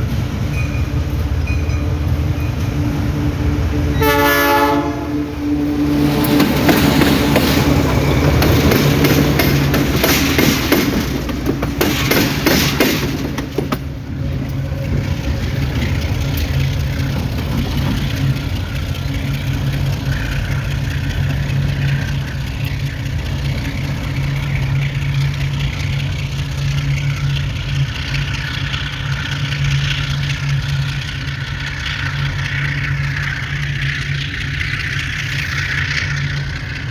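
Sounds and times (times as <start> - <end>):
diesel engine drone: 0.0 - 36.9
train wheels clattering over rails: 0.0 - 36.9.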